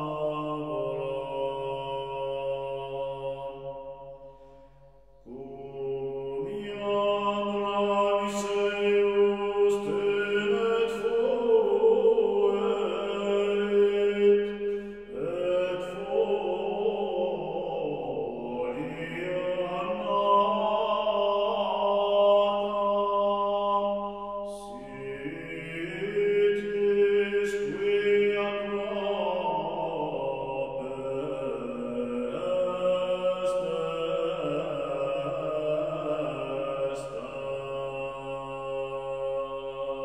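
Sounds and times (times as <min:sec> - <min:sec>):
slow chanting voices: 0:00.0 - 0:40.0.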